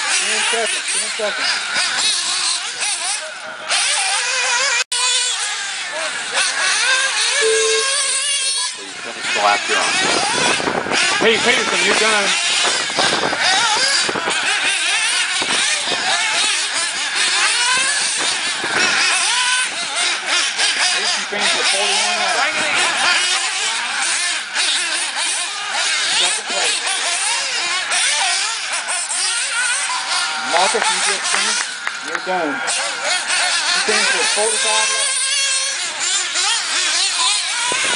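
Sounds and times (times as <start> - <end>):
rc car engines whining: 0.0 - 37.9.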